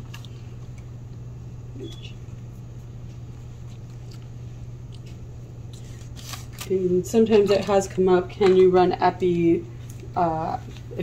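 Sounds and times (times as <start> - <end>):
room tone hum: 0.0 - 11.0.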